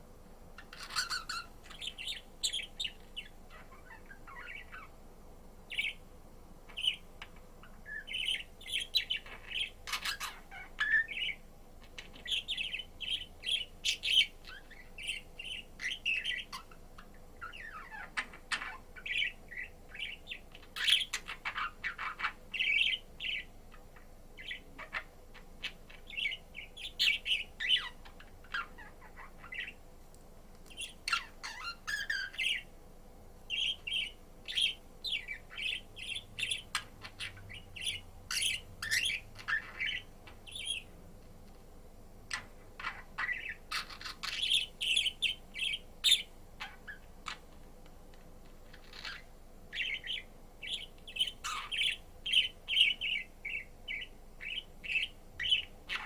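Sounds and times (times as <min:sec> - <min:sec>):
budgerigar chirping: 0:00.6 - 0:04.9, 0:05.7 - 0:06.0, 0:06.7 - 0:29.8, 0:30.7 - 0:32.7, 0:33.5 - 0:40.9, 0:42.3 - 0:47.4, 0:48.7 - 0:56.0.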